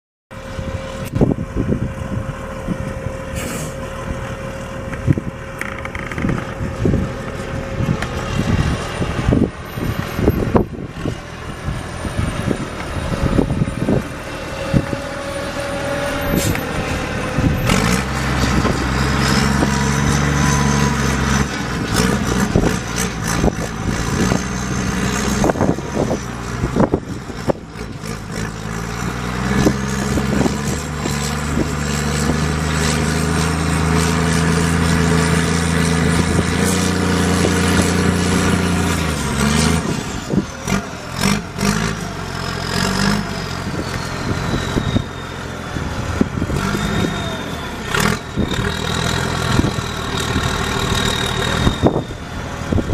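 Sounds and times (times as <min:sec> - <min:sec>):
diesel engine running: 0:00.3 - 0:52.9.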